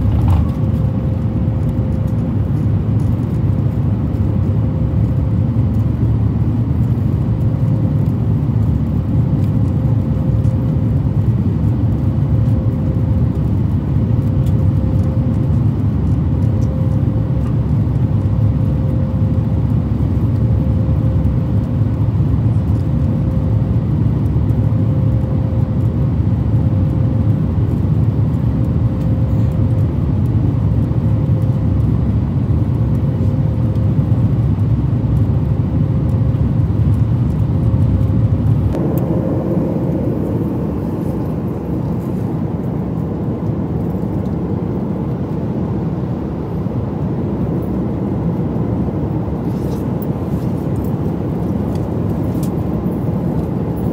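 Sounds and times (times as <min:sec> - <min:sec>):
aircraft cabin engine rumble: 0:00.0 - 0:53.9
faint pulsing hum: 0:00.0 - 0:53.9.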